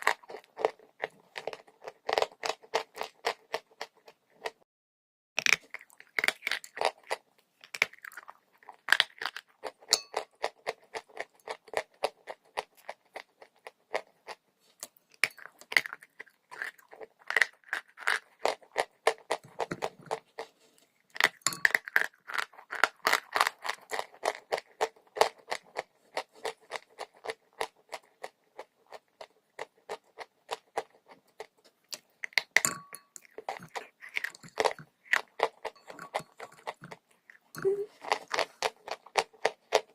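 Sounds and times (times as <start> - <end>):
chewing dry chalk crunching: 0.0 - 4.6, 5.4 - 39.9.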